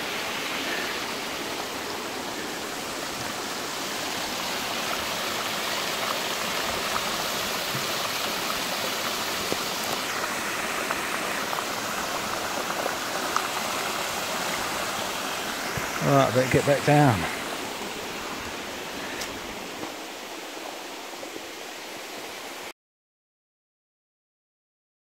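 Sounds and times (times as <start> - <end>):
small waterfall rushing: 0.0 - 22.8.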